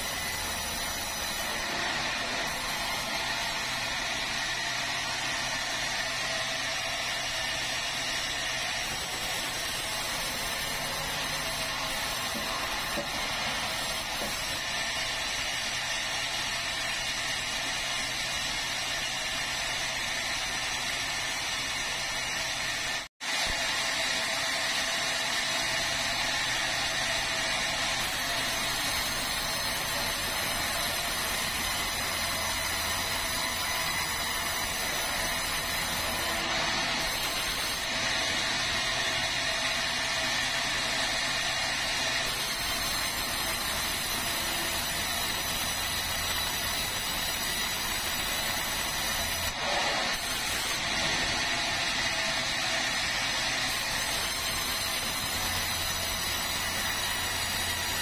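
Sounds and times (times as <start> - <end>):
band saw cutting timber: 0.0 - 58.0.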